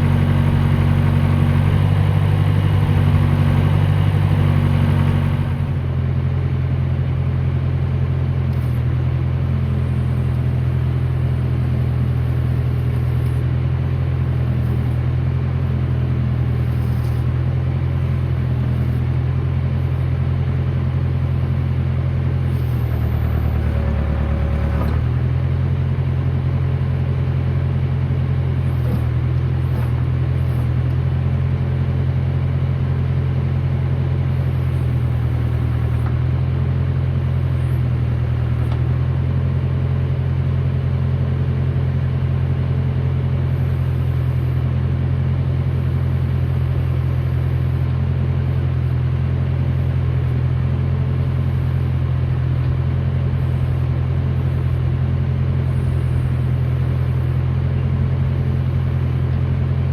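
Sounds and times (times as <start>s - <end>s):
loader engine running: 0.0s - 59.9s.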